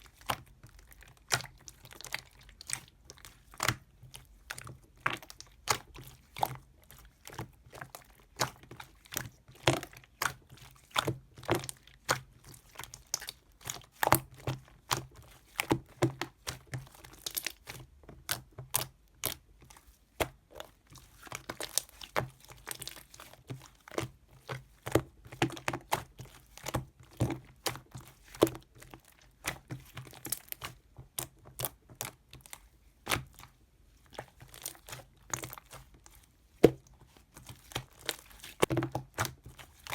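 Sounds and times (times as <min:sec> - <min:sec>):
close-up crinkling and crunching: 0:00.0 - 0:39.9.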